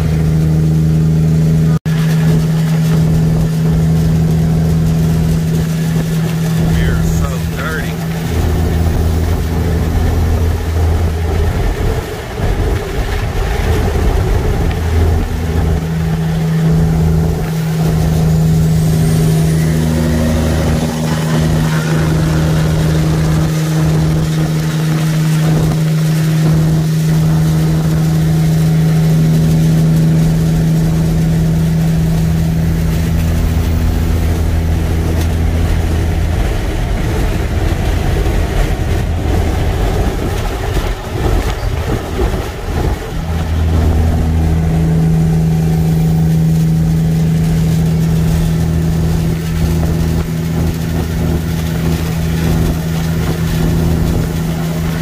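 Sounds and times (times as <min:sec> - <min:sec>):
diesel engine drone: 0:00.0 - 0:55.0
road noise: 0:00.0 - 0:55.0.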